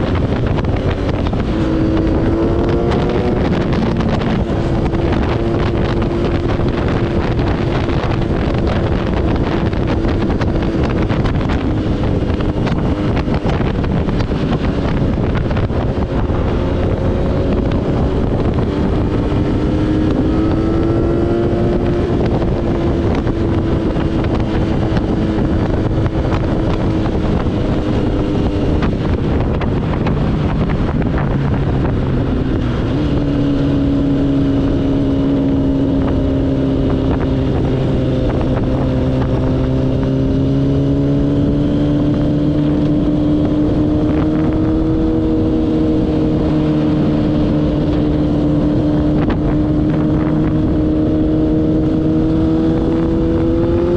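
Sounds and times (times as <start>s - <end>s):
quad engine running: 0.0s - 53.9s
wind on microphone: 0.0s - 53.9s.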